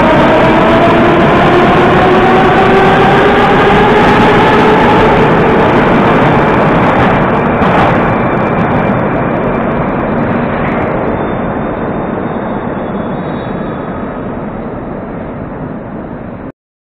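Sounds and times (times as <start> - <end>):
metro train rumbling in tunnel: 0.0 - 16.5.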